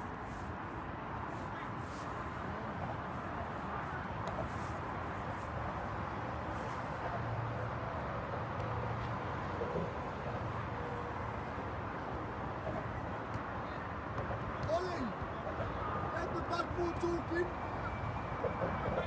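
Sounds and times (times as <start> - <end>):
outdoor rumble and hiss: 0.0 - 19.0.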